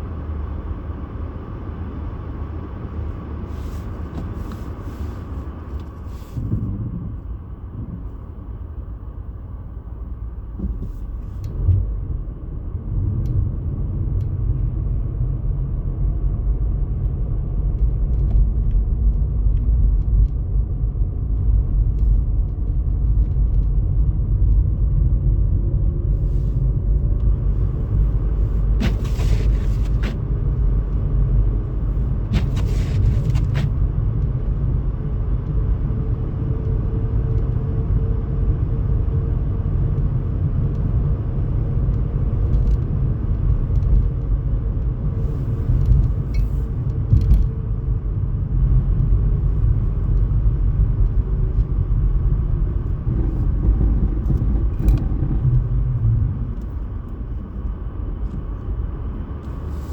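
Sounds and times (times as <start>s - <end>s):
vehicle in motion rumbling: 0.0s - 59.9s.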